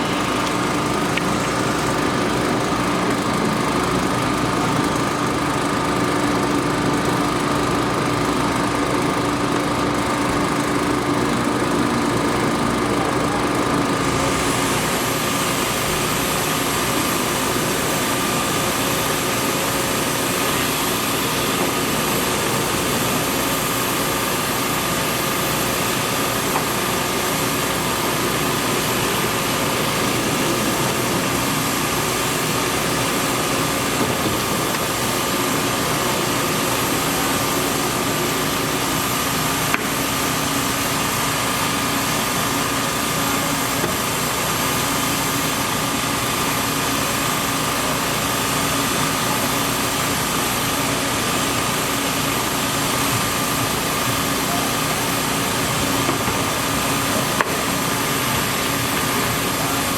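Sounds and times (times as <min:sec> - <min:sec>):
machine drone with whine: 0:00.0 - 0:59.9.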